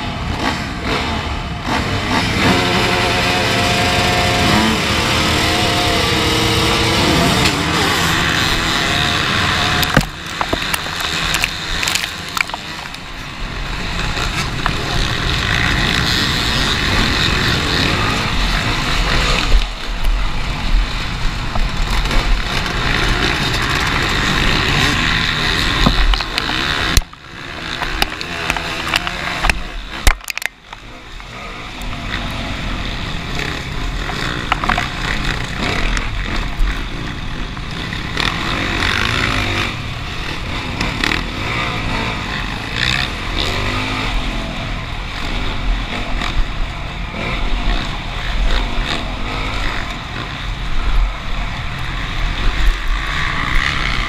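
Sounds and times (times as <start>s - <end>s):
motocross bike engines revving: 0.0s - 54.0s
steady rushing noise: 0.0s - 54.0s.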